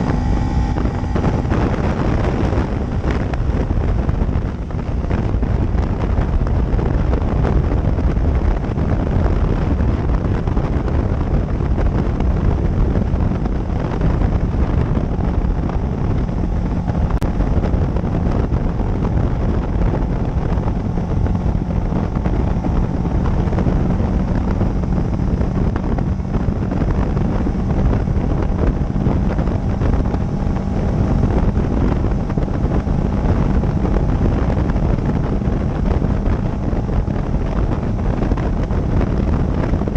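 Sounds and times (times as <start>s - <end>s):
motorcycle engine hum: 0.0s - 39.9s
road noise: 0.0s - 39.9s
wind rushing over microphone: 0.0s - 39.9s.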